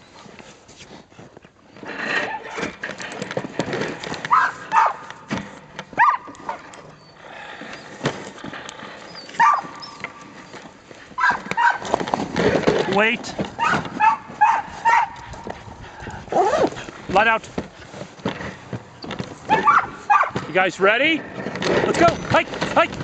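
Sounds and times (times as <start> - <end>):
sled dogs yipping and whining: 1.2 - 17.1, 18.7 - 20.6, 21.4 - 23.0.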